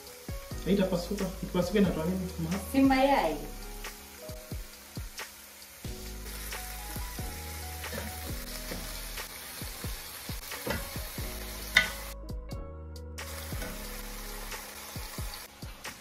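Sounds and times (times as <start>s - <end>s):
chicken sizzling in a hot pot: 0.0s - 12.2s, 13.2s - 16.0s.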